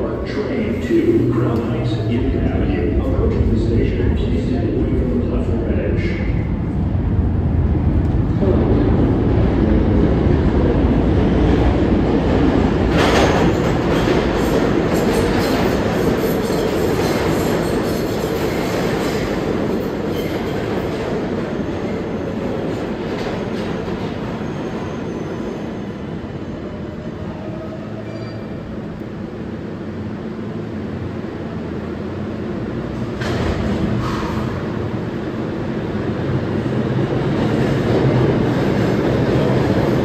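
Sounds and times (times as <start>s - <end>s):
subway train wheels rumbling: 0.0s - 40.0s.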